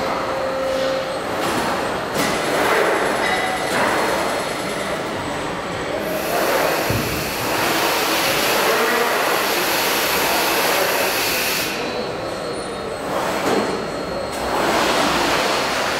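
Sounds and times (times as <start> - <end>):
machine running: 0.0 - 15.9.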